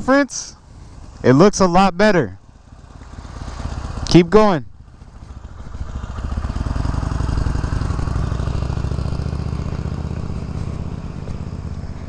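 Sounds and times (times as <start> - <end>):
motorcycle passing by: 0.0 - 12.0.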